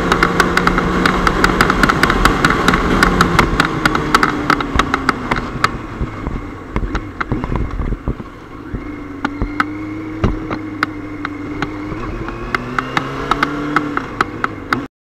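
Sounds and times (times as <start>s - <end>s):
sharp clicks and knocks: 0.0s - 5.8s, 6.7s - 8.2s, 9.2s - 14.9s
motorcycle engine running: 0.0s - 14.9s.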